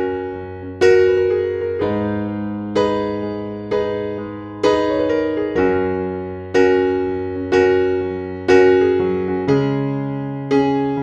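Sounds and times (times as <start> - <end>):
electric piano chords: 0.0 - 11.0.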